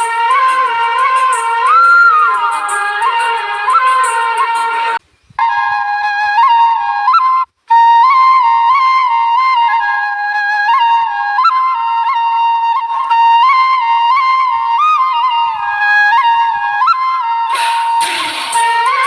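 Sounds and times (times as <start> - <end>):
solo flute melody: 0.0 - 19.0.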